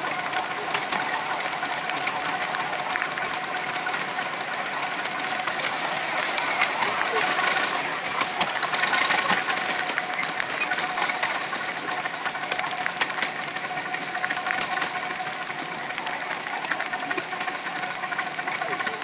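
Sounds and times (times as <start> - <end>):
steam locomotive hissing: 0.0 - 19.0
track clicks and rattles: 0.0 - 19.0.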